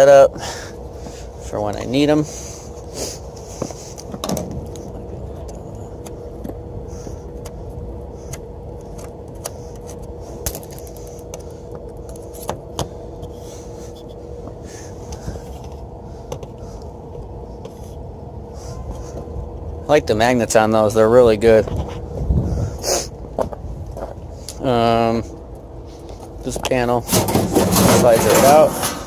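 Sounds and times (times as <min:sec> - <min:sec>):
low hum with faint tone: 0:00.0 - 0:29.0.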